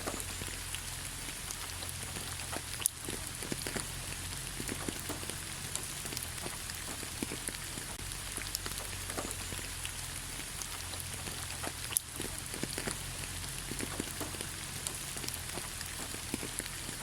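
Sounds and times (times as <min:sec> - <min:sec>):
light rain pattering on leaves: 0:00.0 - 0:17.0.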